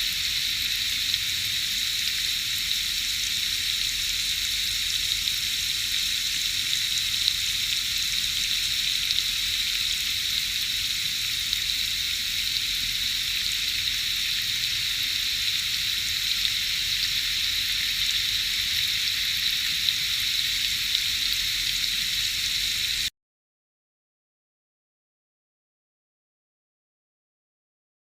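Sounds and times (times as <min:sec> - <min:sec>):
steady high-pitched hiss: 0:00.0 - 0:23.1.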